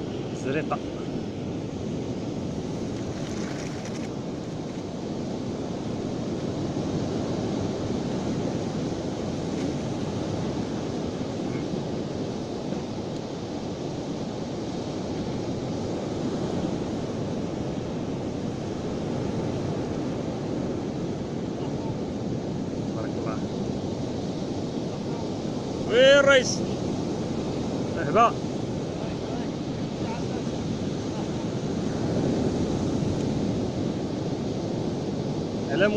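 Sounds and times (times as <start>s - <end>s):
surf breaking on beach: 0.0s - 35.9s
wind buffeting microphone: 0.0s - 35.9s.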